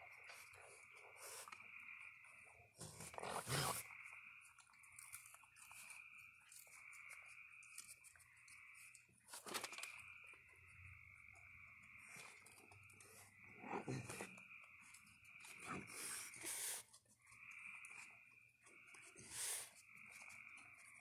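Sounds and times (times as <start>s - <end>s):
frogs or insects calling: 0.0s - 21.0s
raccoon crunching and rummaging: 0.0s - 21.0s.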